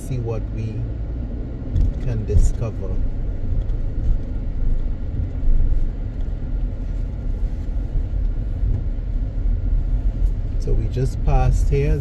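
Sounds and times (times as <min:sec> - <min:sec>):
car driving inside cabin: 0:00.0 - 0:12.0.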